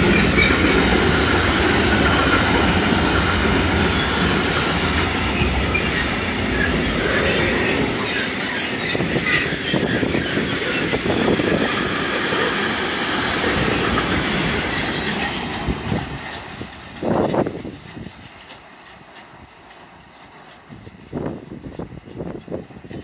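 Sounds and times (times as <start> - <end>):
train wheels clattering over rail joints: 0.0 - 23.0.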